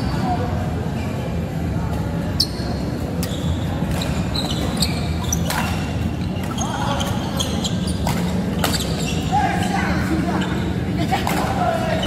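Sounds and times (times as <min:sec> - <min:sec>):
shoes squeaking on court floor: 0:02.3 - 0:12.0.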